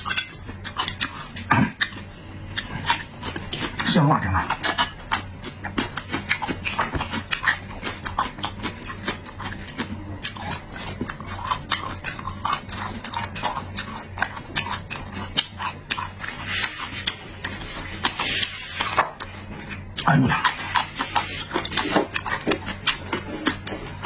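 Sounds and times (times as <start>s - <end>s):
person chewing and smacking food: 0.0s - 24.0s.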